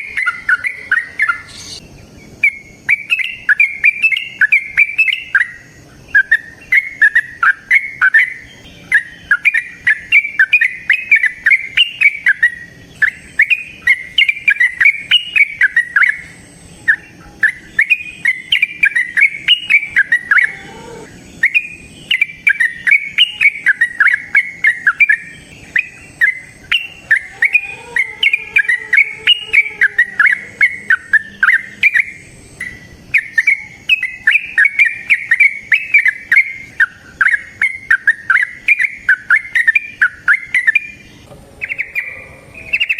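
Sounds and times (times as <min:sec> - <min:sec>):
bird bubbling song: 0:00.0 - 0:42.9
faint low bird call: 0:00.0 - 0:42.9.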